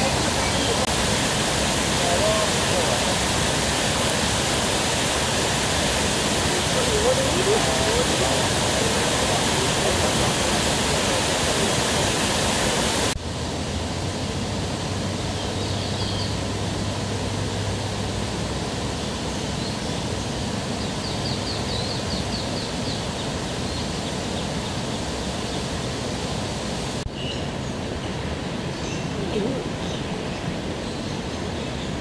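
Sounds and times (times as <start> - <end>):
steady rushing outdoor noise: 0.0 - 32.0.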